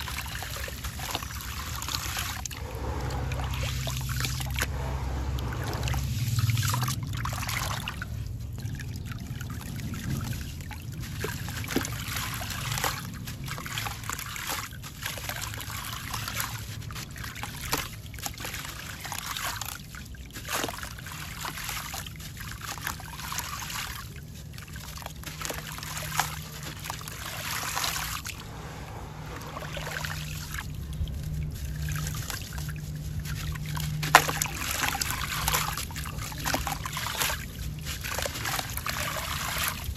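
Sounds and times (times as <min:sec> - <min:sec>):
wet sand splashing into water: 0:00.0 - 0:08.2, 0:08.8 - 0:39.9
muddy water sloshing in tub: 0:00.0 - 0:39.9.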